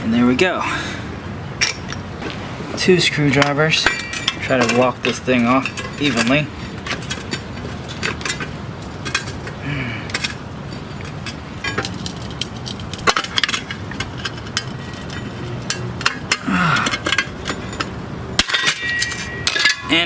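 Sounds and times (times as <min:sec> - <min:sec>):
metal clinks and taps: 0:03.3 - 0:20.0.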